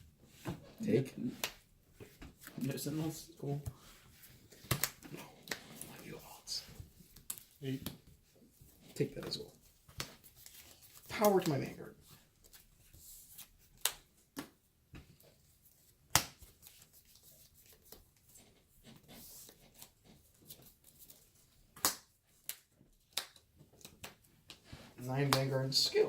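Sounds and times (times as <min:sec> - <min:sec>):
cards rustling: 0:00.3 - 0:14.6, 0:15.2 - 0:26.0.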